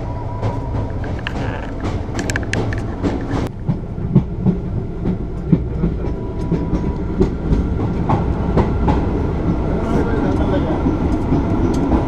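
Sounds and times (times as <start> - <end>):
train coach rumbling: 0.0 - 12.0
wheels clacking and knocking: 0.4 - 12.0.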